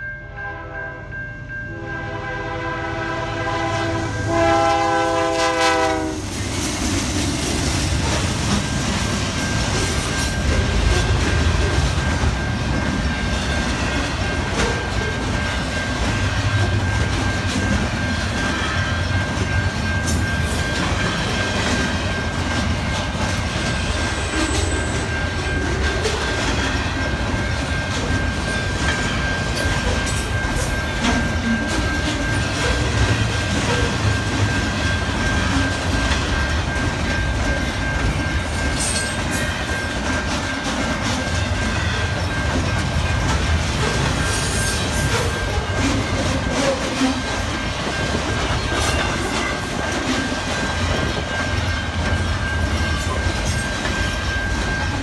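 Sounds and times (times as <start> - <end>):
train wheels rumbling on rail: 1.0 - 55.0.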